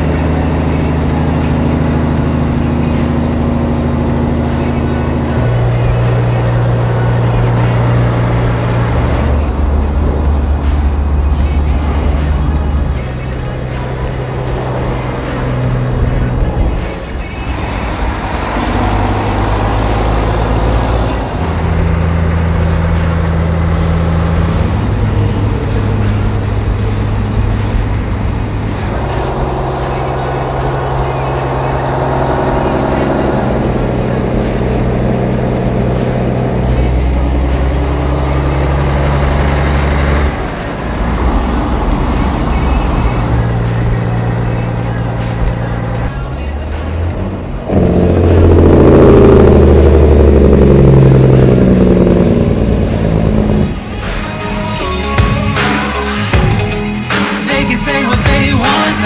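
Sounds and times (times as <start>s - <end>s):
diesel trucks driving past: 0.0s - 59.0s.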